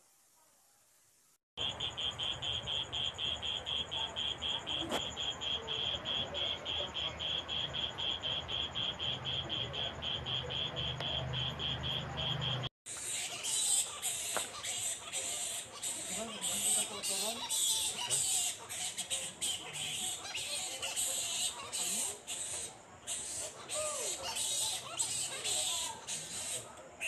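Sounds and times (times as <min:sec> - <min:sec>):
high chirping animal call: 0:01.6 - 0:27.0.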